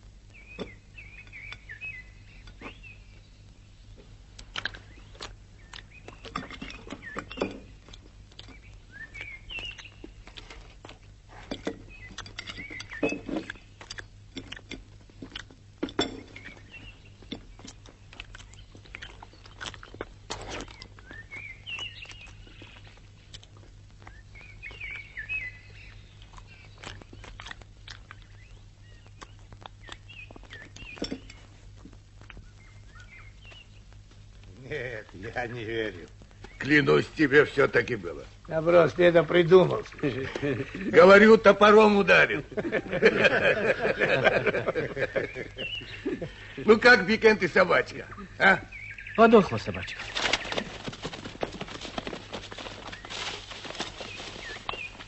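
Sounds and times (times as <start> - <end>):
birds chirping: 0.0 - 55.0
low steady hum: 0.0 - 55.0.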